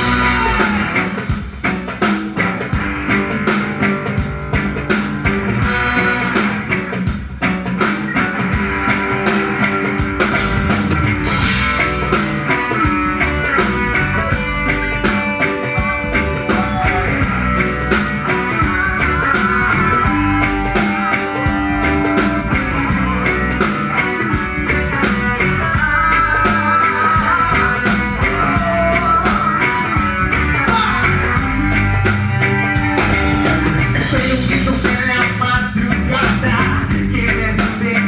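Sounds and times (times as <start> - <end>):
drum kit beat: 0.0 - 38.0
guitar: 0.0 - 38.0
live band playing: 0.0 - 38.0.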